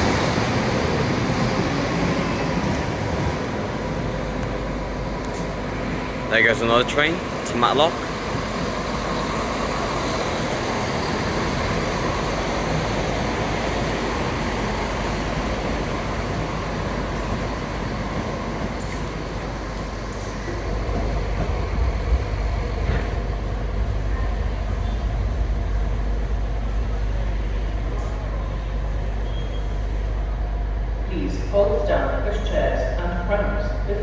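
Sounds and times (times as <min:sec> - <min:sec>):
train engine running: 0:00.0 - 0:33.9
train wheel noise: 0:00.0 - 0:34.0.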